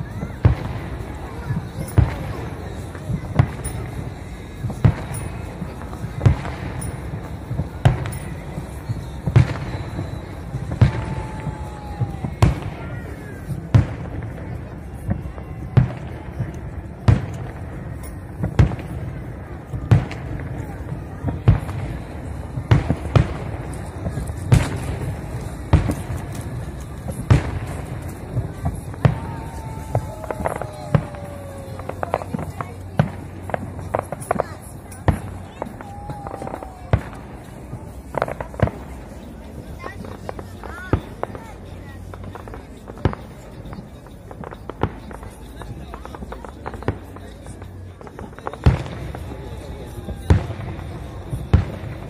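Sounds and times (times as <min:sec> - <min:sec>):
fireworks booming: 0:00.0 - 0:52.0.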